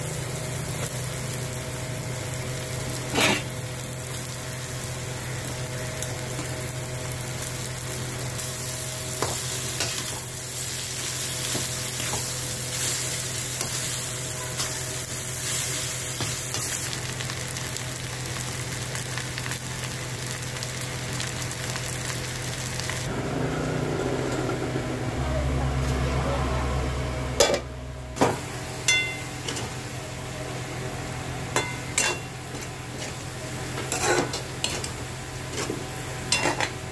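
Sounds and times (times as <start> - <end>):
rice sizzling in a pan: 0.0 - 23.8, 28.2 - 36.9.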